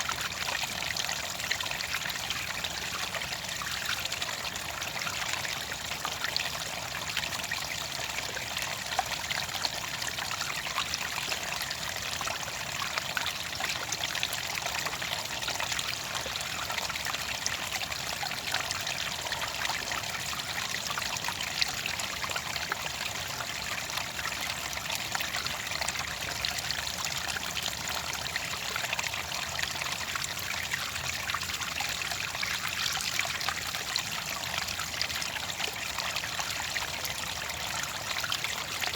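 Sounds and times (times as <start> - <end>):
water trickling in a stream: 0.0 - 38.9.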